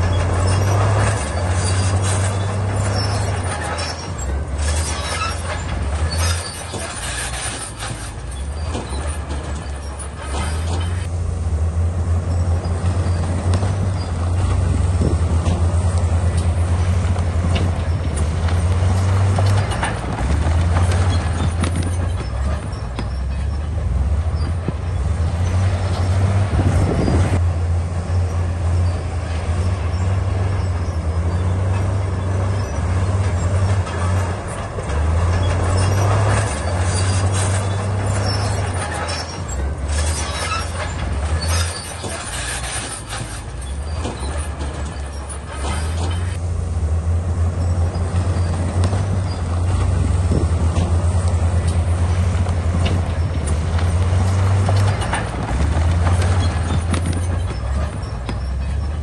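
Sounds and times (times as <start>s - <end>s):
clatter of tracks and rock: 0.0s - 11.1s, 12.2s - 27.4s, 28.4s - 46.4s, 47.7s - 59.0s
bulldozer diesel engine: 0.0s - 59.0s.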